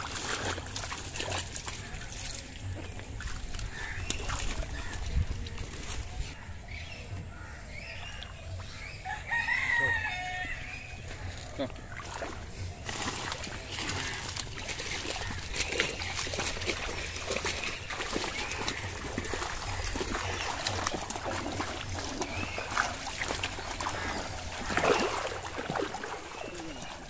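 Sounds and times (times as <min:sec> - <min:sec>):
feet splashing through shallow water: 0:00.0 - 0:27.0
trampling water plants rustling: 0:00.0 - 0:27.0.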